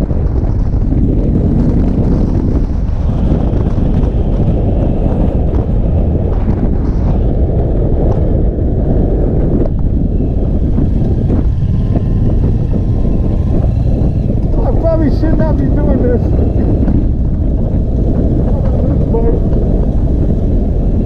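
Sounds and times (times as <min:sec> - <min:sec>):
motorcycle engine cruising: 0:00.0 - 0:21.0
wind rush on microphone: 0:00.0 - 0:21.0.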